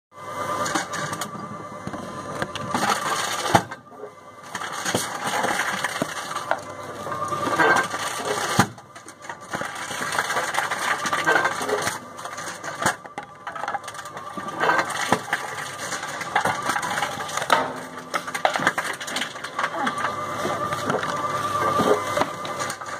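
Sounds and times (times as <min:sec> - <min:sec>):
bottles rattling on rollers: 0:02.5 - 0:22.9.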